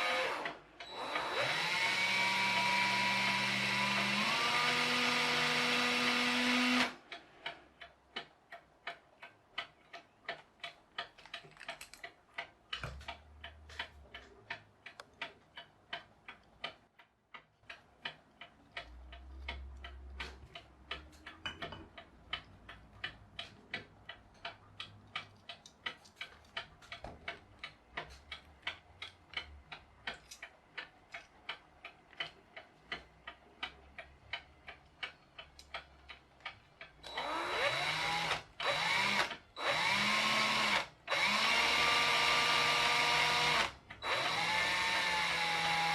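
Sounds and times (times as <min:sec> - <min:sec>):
mechanical clock ticking: 0:00.0 - 0:45.9.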